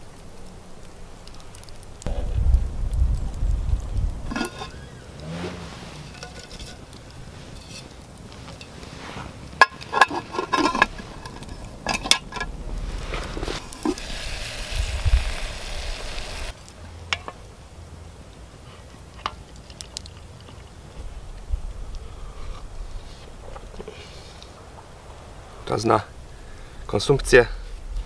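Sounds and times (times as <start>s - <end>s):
steady hiss: 0.0s - 19.8s, 20.7s - 28.0s.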